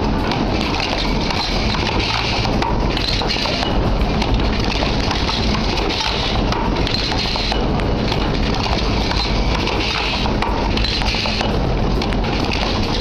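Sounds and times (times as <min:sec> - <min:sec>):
machine clattering: 0:00.0 - 0:13.0.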